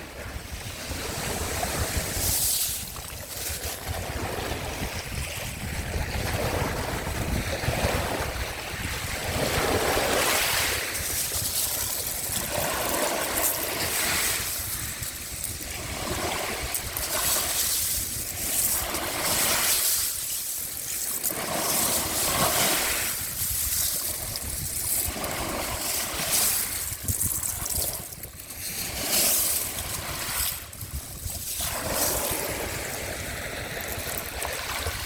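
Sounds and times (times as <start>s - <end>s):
sea waves washing onto shore: 0.0s - 35.0s
wind rumble on microphone: 0.0s - 35.0s.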